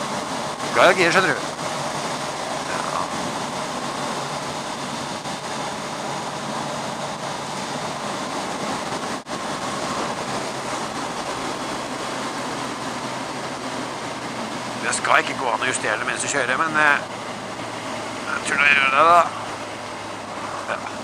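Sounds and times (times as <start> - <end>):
motorcycle engine hum: 0.0 - 21.0.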